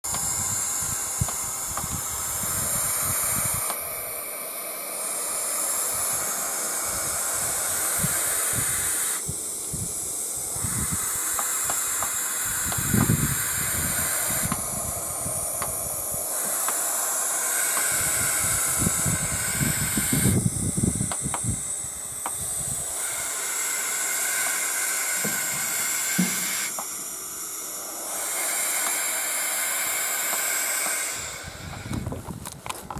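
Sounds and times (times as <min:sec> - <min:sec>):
young owls hissing: 0:00.1 - 0:32.1.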